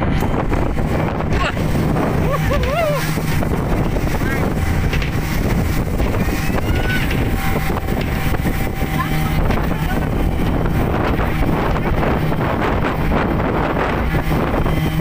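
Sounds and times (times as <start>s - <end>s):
rushing water: 0.0s - 15.0s
speedboat engine drone: 0.0s - 15.0s
wind buffeting microphone: 0.0s - 15.0s.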